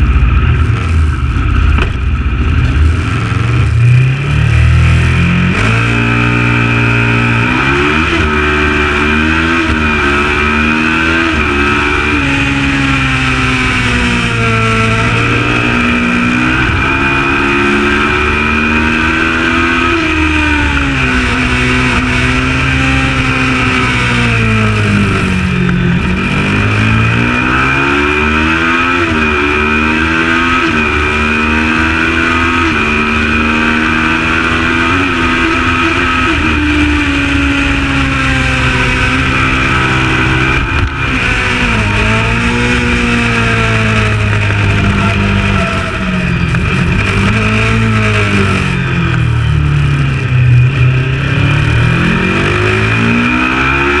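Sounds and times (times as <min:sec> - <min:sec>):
motorcycle engine accelerating hard: 0:00.0 - 0:54.0.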